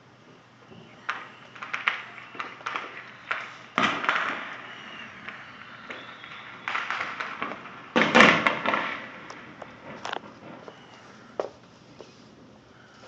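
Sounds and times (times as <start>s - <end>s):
fireworks banging: 0.0s - 12.4s
crackling firework pops: 0.6s - 12.1s.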